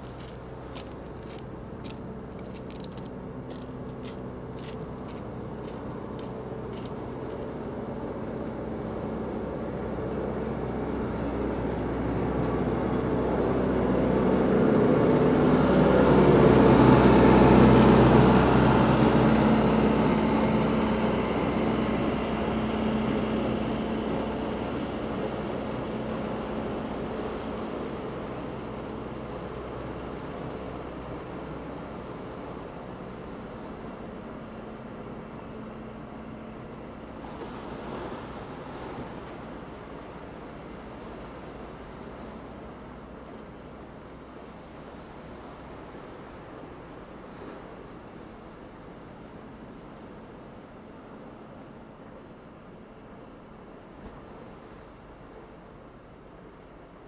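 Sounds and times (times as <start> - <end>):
diesel rail vehicle passing: 0.0 - 57.0.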